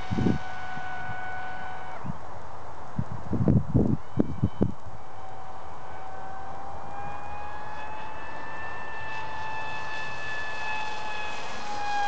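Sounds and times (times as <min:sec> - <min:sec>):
model glider electric motor whine: 0:00.0 - 0:12.0.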